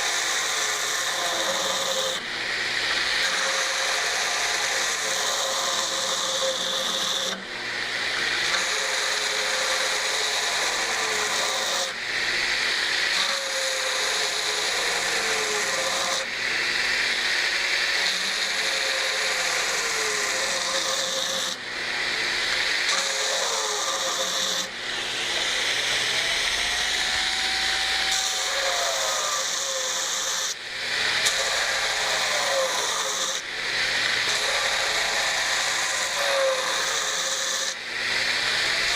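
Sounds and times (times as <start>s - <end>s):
belt grinder grinding steel: 0.0s - 38.9s
motor hum: 0.0s - 38.9s.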